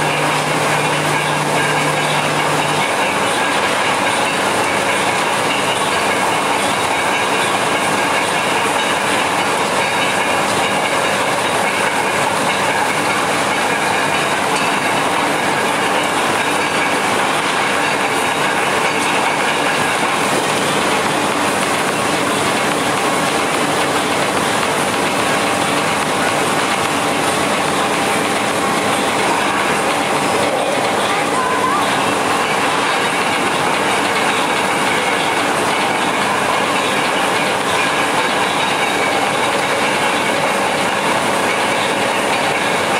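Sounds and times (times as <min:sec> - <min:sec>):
train wheels on rails: 0:00.0 - 0:42.9.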